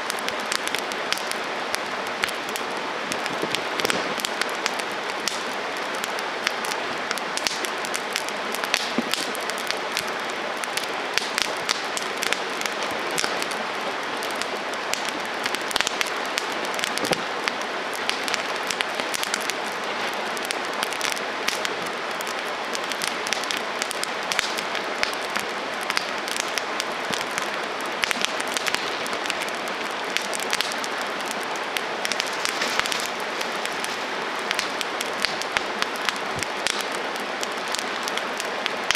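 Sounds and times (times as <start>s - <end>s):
burning wood crackling: 0.0s - 38.9s
campfire hissing: 0.0s - 38.9s.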